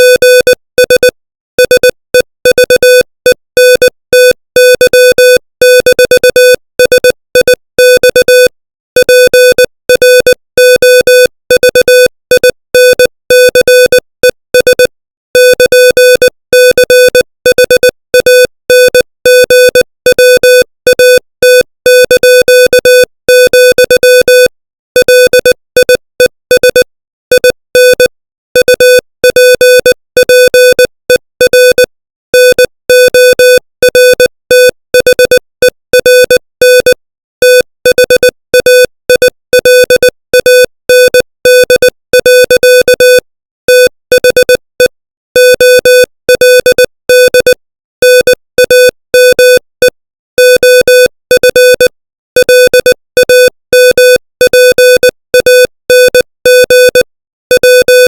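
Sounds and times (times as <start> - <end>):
morse code beeps: 0.0 - 58.0.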